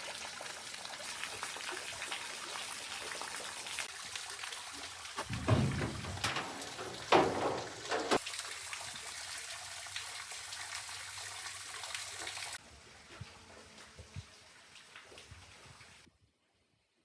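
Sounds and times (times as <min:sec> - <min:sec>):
running water trickling: 0:00.0 - 0:16.1.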